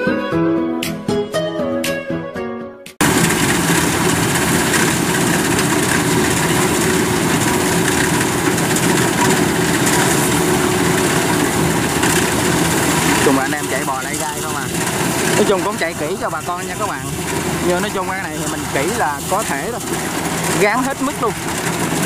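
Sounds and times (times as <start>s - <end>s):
combine harvester running: 3.0s - 22.0s.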